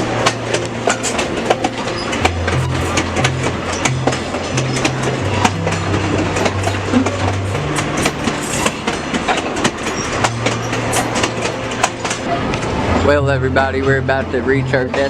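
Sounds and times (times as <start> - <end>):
train wheels clattering over rails: 0.0 - 13.2
low hum: 0.0 - 15.0
train rumble: 0.0 - 15.0.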